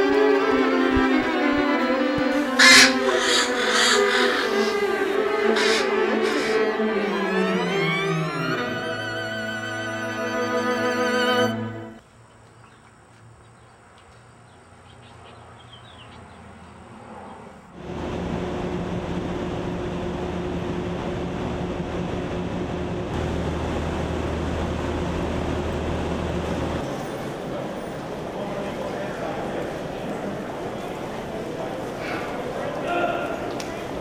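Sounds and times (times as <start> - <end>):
loud train noise: 0.0 - 12.0, 17.7 - 34.0
subway train hum: 0.0 - 12.0, 16.8 - 34.0
background ambience: 0.0 - 34.0.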